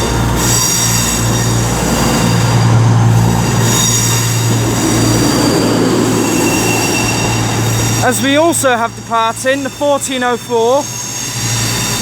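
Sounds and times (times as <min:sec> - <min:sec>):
diesel engines humming: 0:00.0 - 0:11.0
train wheels squealing: 0:00.0 - 0:12.0.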